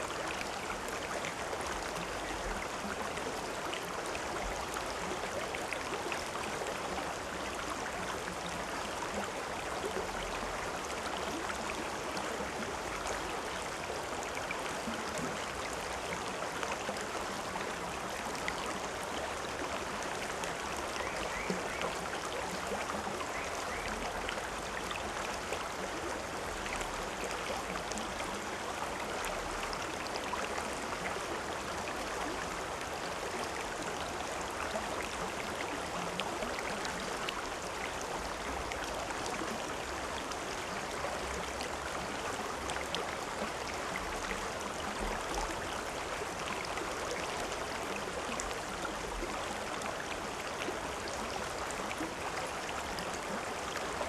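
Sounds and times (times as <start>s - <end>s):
stream running over rocks: 0.0s - 54.0s.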